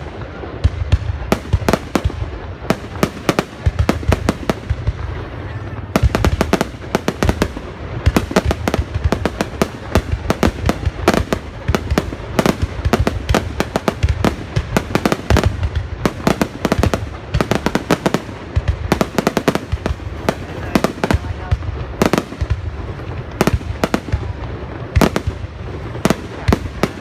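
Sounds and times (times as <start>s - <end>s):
fireworks bangs and pops: 0.0s - 27.0s.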